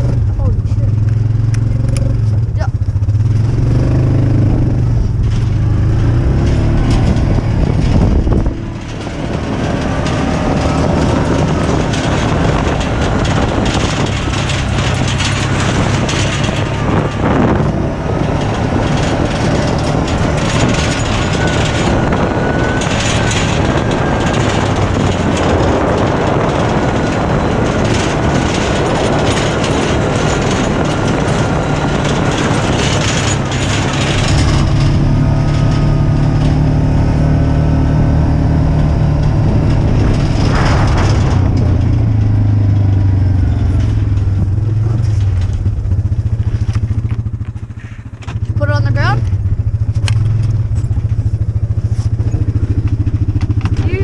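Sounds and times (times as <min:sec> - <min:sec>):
farm vehicle engine running: 0:00.0 - 0:54.0
rattling: 0:00.0 - 0:54.0.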